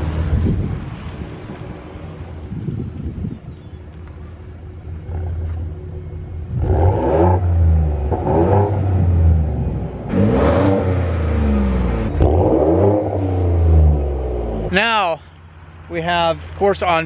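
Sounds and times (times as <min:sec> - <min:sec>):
truck engine idling and revving: 0:00.0 - 0:17.0.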